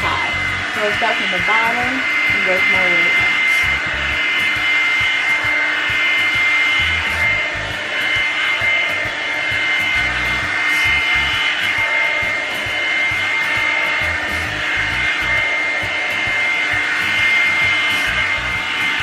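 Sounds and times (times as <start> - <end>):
hair dryer brush running: 0.0 - 19.0.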